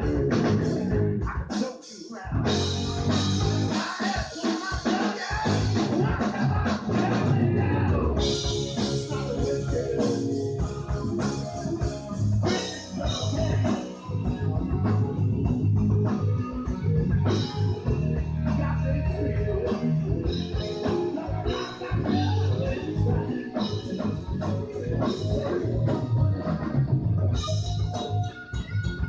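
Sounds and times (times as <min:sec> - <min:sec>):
electric guitar: 0:00.0 - 0:01.6, 0:02.2 - 0:29.0
rock band playing live: 0:00.0 - 0:29.0.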